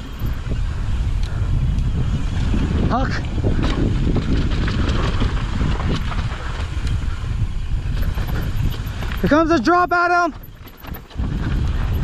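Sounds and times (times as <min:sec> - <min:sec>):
bike rattles and clicks: 0:00.0 - 0:12.0
wind noise on microphone: 0:00.0 - 0:12.0.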